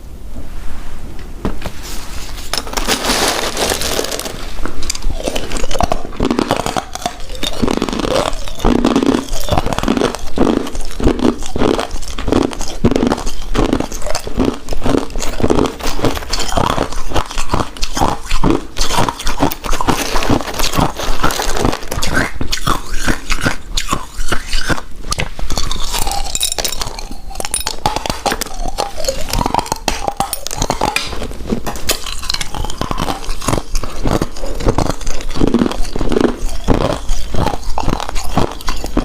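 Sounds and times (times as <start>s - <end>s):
crunching and rustling: 1.5s - 39.0s
close-miked chewing: 3.5s - 39.0s.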